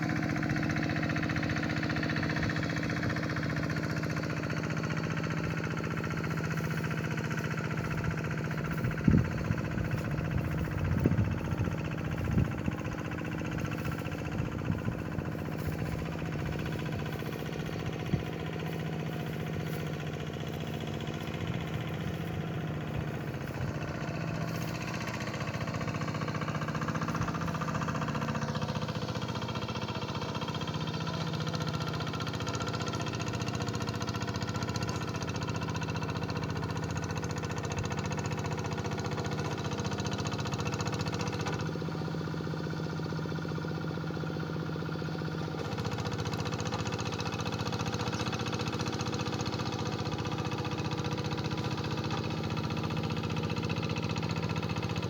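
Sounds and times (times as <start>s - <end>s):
hand tractor engine running: 0.0s - 55.0s.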